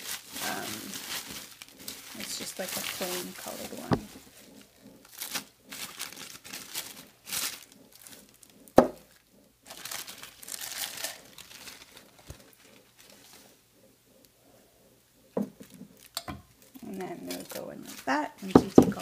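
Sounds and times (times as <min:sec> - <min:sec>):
plastic packaging crinkling: 0:00.0 - 0:13.6, 0:15.6 - 0:19.0.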